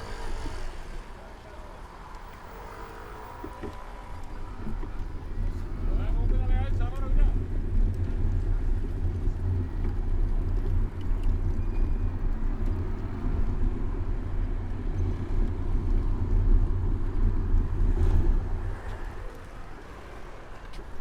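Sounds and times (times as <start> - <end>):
low rumble of street traffic: 0.0 - 21.0.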